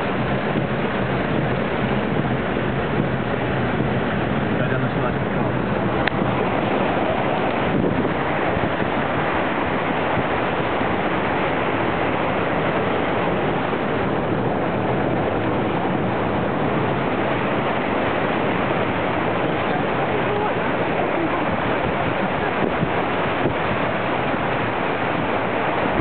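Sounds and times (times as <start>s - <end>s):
water rushing around car: 0.0s - 26.0s.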